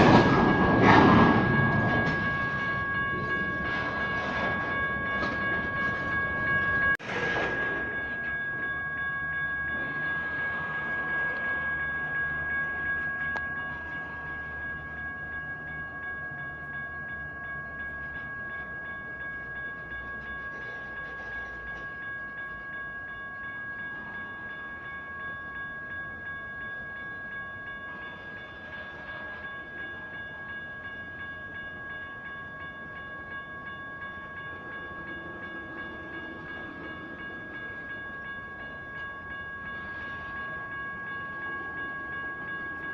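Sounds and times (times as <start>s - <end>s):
electronic crossing bells ringing: 0.0s - 42.9s
train low rumble: 0.0s - 42.9s.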